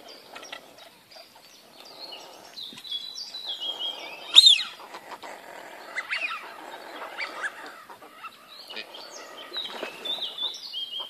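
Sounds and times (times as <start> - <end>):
birds chirping and whistling: 0.0 - 11.0.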